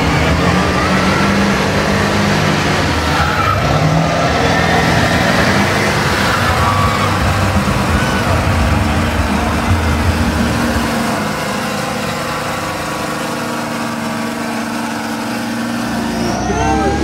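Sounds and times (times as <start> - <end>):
truck engines revving hard: 0.0 - 17.0.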